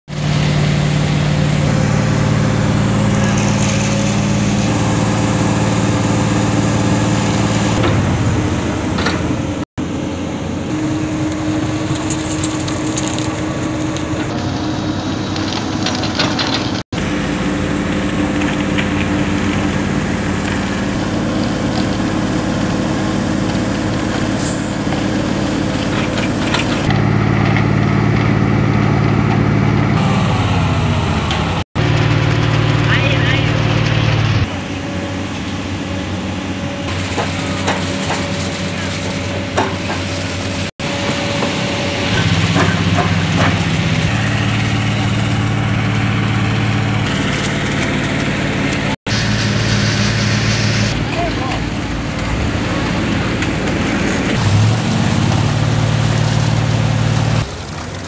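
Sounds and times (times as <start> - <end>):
excavator diesel engine: 0.0 - 58.0
concrete mixer truck engine: 0.1 - 58.0.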